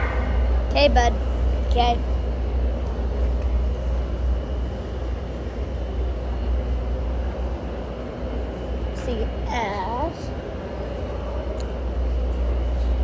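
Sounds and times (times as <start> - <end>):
subway platform rumble and hiss: 0.0 - 13.0.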